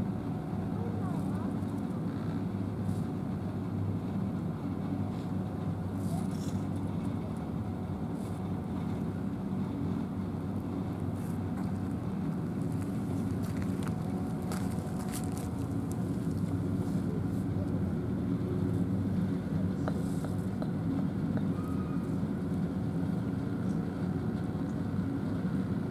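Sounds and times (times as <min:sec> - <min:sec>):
low engine drone: 0:00.0 - 0:25.9.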